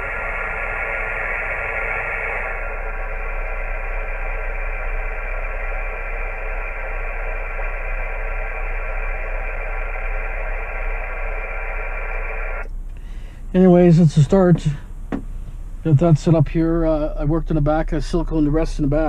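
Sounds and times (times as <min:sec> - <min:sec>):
radio static hiss: 0:00.0 - 0:12.7, 0:13.5 - 0:14.9, 0:15.8 - 0:19.0.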